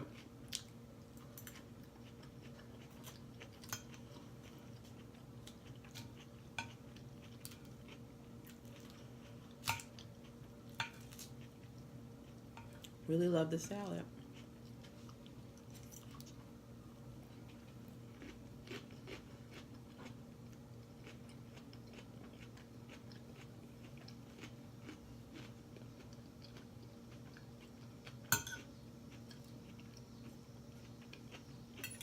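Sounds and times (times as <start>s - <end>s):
chewing and crunching salad: 0.0s - 32.0s
steady low hum: 0.0s - 32.0s.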